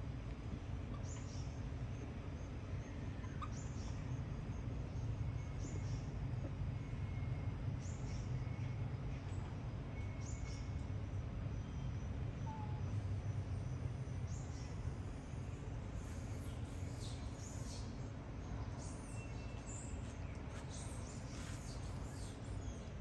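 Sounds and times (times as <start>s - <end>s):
low background rumble: 0.0s - 23.0s
bird chirping: 0.9s - 6.2s, 6.8s - 23.0s.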